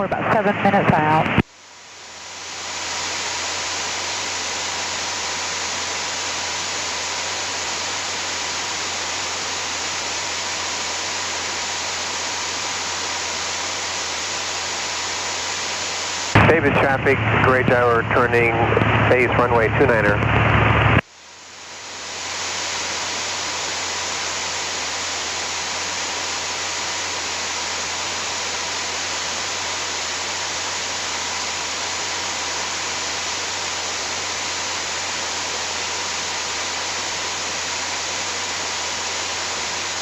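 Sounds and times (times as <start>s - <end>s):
aircraft engine and airflow in cabin: 0.0s - 40.0s.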